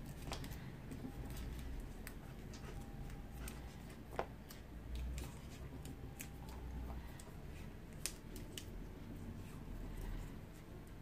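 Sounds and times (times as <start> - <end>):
tape and wires clicking and rustling: 0.0 - 11.0.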